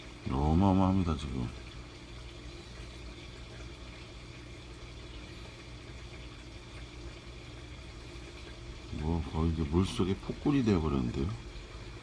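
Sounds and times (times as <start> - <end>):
aquarium filter hum: 0.0 - 12.0
soft rush of moving water: 0.0 - 12.0.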